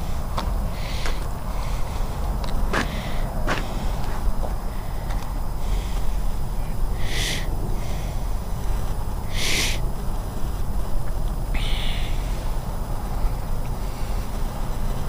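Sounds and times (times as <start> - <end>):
birds calling harshly: 0.0 - 4.0, 4.6 - 10.5, 11.5 - 14.9
wind rumble on microphone: 0.0 - 15.0.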